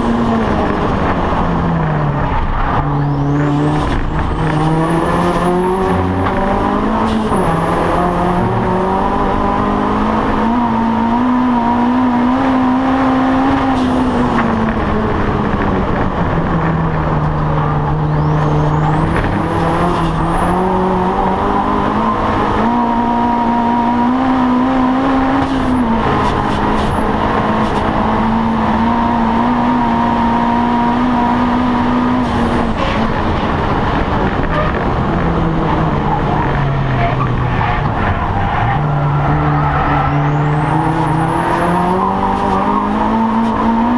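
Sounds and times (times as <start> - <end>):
race car engine: 0.0 - 43.9.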